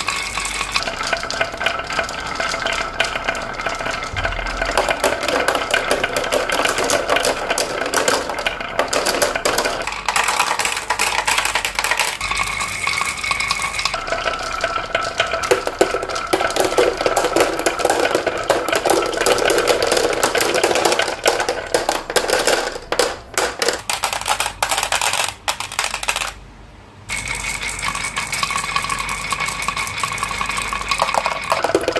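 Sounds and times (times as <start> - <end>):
marbles rolling and clattering: 0.0 - 26.4, 27.1 - 31.9.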